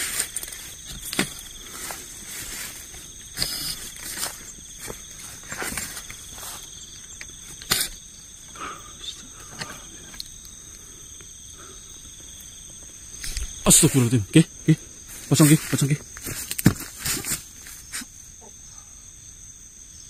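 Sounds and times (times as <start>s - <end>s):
rustles and snaps in undergrowth: 0.0s - 8.4s, 9.1s - 11.4s, 12.1s - 18.2s
crickets trilling: 0.0s - 20.0s.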